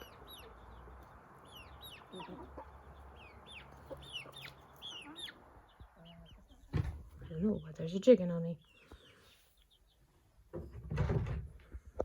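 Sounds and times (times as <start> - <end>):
chick peeping: 0.0 - 10.8.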